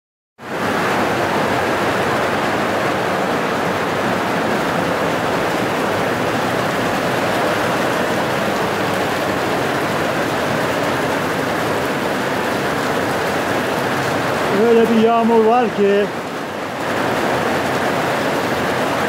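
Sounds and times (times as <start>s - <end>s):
steady rain pouring: 0.4s - 19.0s.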